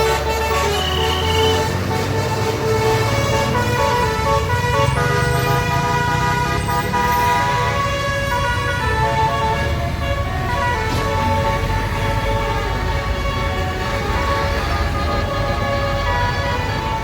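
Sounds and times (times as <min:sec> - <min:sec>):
bus engine rumbling: 0:00.0 - 0:17.0
multi-tone bus horn tune: 0:00.0 - 0:17.0.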